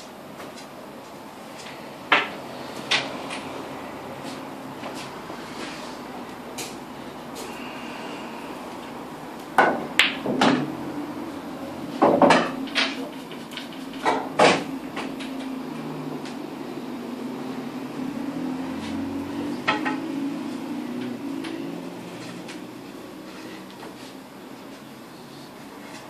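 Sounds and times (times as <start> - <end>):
pool balls clacking: 0.0 - 7.6, 8.6 - 25.0.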